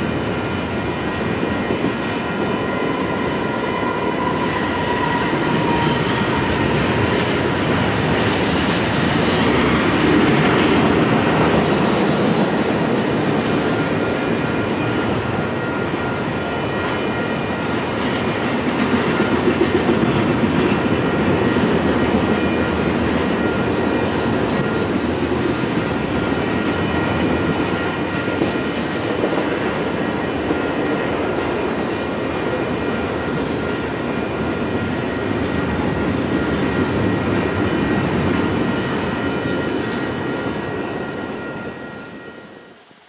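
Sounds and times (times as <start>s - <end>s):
freight train wheels rumbling: 0.0s - 43.0s.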